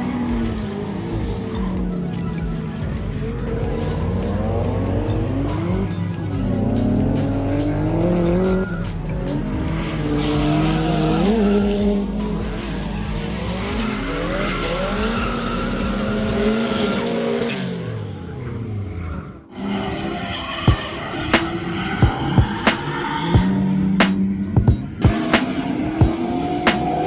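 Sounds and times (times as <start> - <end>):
car engine revving: 0.0 - 27.0
tires squealing: 0.0 - 27.0.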